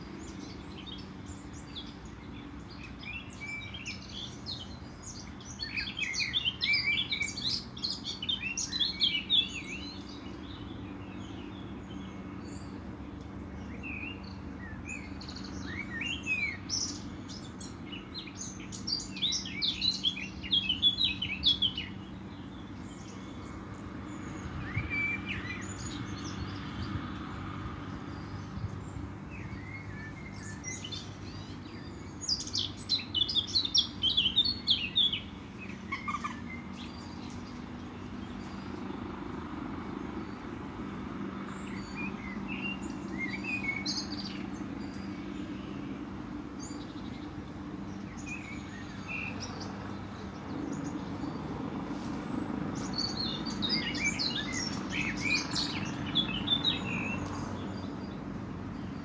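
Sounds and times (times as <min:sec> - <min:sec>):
songbirds chirping and singing: 0:00.0 - 0:59.0
steady low background hum: 0:00.0 - 0:59.0.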